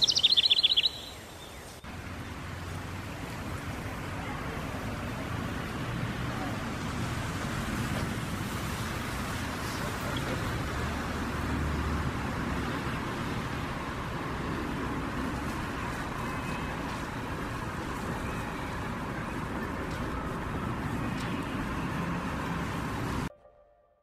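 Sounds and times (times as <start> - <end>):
city traffic rumble: 0.0 - 23.3.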